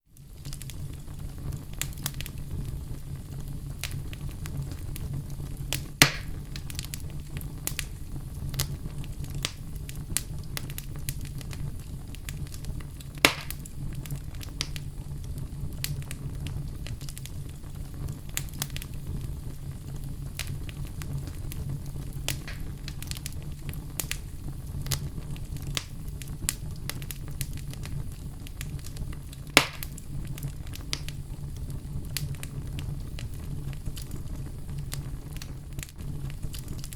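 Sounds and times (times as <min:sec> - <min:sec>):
low rumble of burning: 0:00.0 - 0:36.9
wood fire crackling: 0:00.0 - 0:36.9
loud pops of fire: 0:00.2 - 0:36.9.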